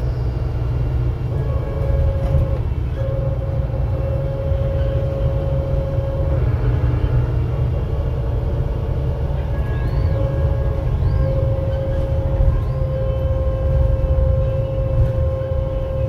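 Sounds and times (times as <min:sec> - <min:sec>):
bus interior drone: 0:00.0 - 0:16.0
steady bus whine: 0:00.0 - 0:16.0.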